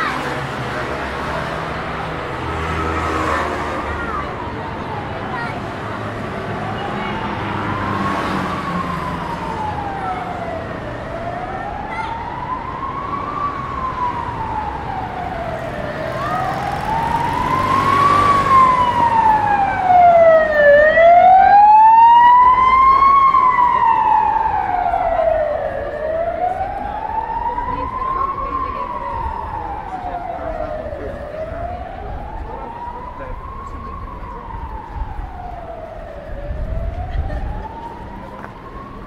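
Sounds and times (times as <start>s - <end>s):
emergency siren wailing: 0.0s - 39.0s
street traffic: 0.0s - 39.0s.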